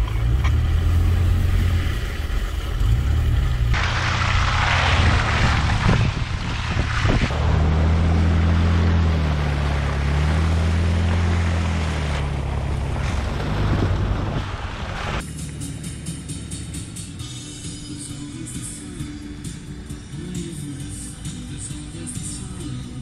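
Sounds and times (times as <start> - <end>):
off-road engine revving: 0.0 - 23.0.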